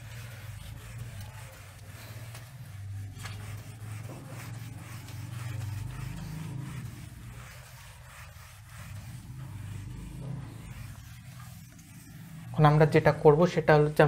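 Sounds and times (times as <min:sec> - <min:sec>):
eraser rubbing on whiteboard: 0:00.0 - 0:14.0
steady low hum: 0:00.0 - 0:14.0.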